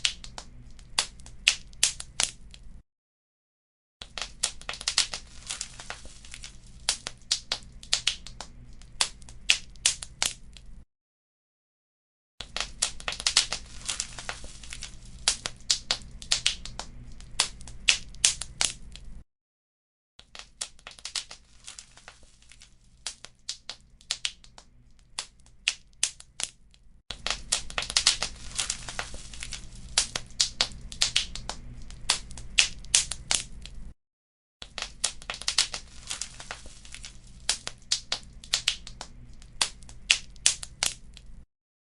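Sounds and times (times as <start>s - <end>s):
wood fire crackling and popping: 0.0s - 2.8s, 4.0s - 10.8s, 12.4s - 19.2s, 20.3s - 33.9s, 34.6s - 41.4s.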